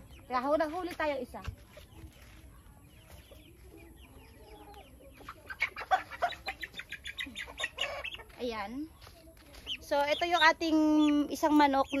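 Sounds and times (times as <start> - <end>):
chickens clucking softly: 0.0 - 12.0.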